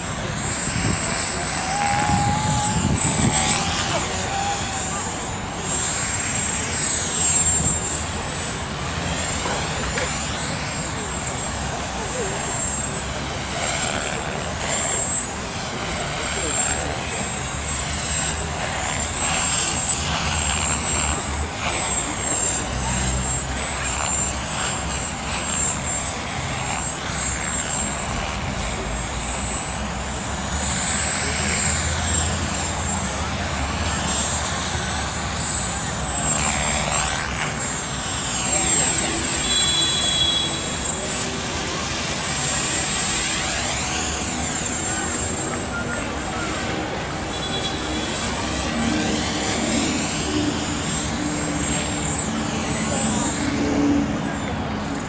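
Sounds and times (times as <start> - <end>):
model helicopter high-pitched whine: 0.0 - 55.0.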